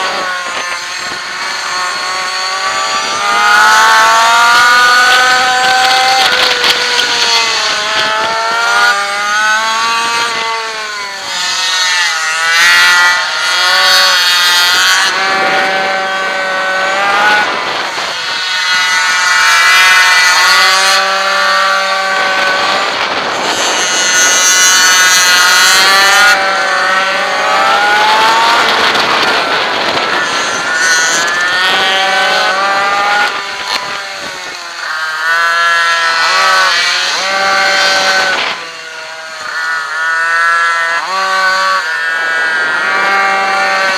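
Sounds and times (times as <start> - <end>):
other minibike engines: 0.0 - 43.9
small two-stroke engine revving: 0.0 - 43.9.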